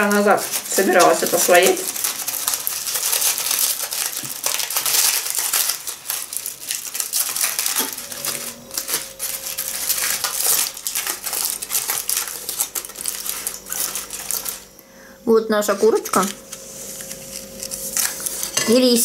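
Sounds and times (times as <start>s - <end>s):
aluminium foil crinkling: 0.0s - 14.8s, 15.6s - 19.0s.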